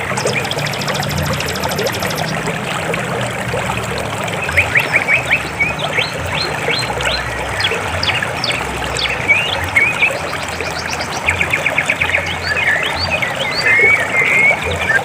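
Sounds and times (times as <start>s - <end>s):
small birds chirping: 0.0s - 2.5s, 4.4s - 15.0s
river water flowing: 0.0s - 15.0s.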